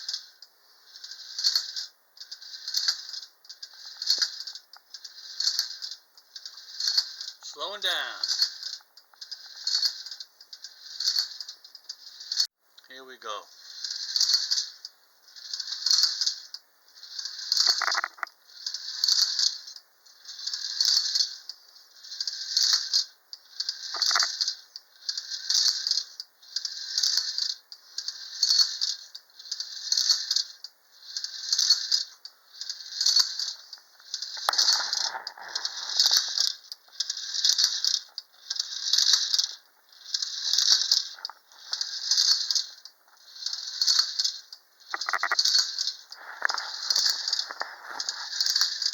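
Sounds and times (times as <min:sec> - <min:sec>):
wind-up toy rattling clatter: 0:00.0 - 0:48.9.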